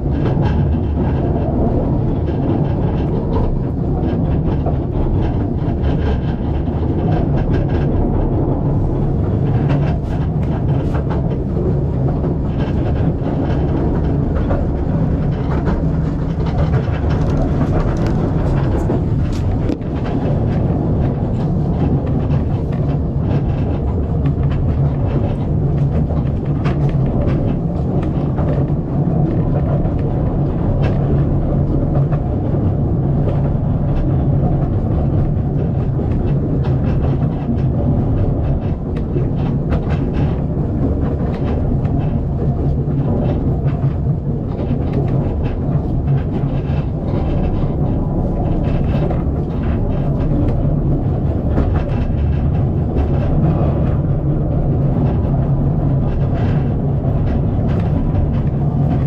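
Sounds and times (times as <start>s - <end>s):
train wheels rumbling on rail: 0.0s - 59.0s
clicks and rattles: 0.1s - 59.0s.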